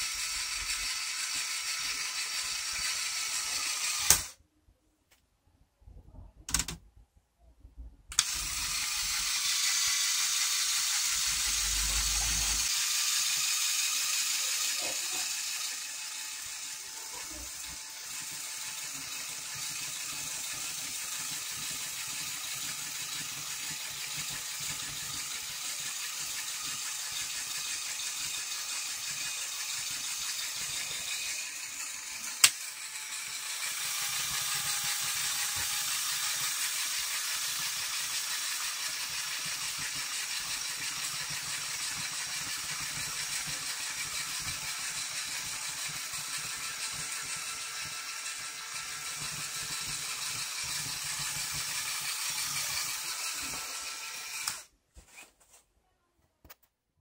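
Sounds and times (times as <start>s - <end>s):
plastic gears rattling: 8.1s - 54.7s.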